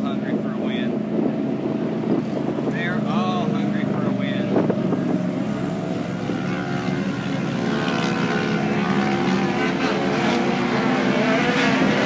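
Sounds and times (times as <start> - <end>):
droning hum of motors: 0.0 - 12.0.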